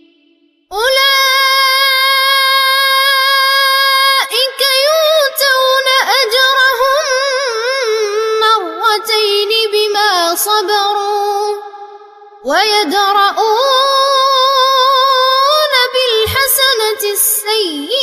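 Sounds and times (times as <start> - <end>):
boy chanting melodically: 0.0 - 18.0.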